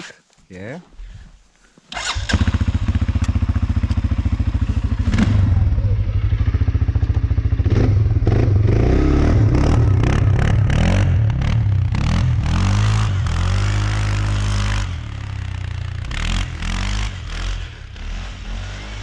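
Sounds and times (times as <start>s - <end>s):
atv engine idling and revving: 2.0s - 19.0s.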